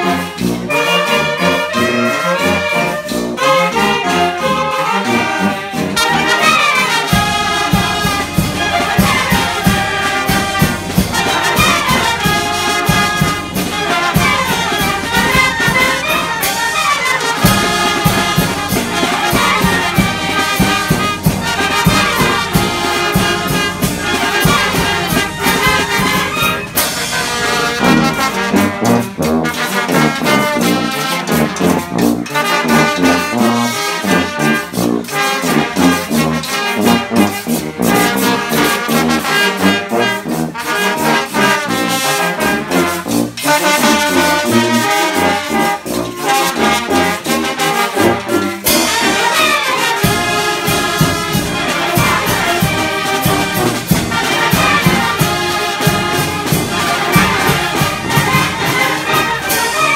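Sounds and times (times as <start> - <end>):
brass band playing: 0.0 - 59.9
drums and cymbal: 6.0 - 59.9.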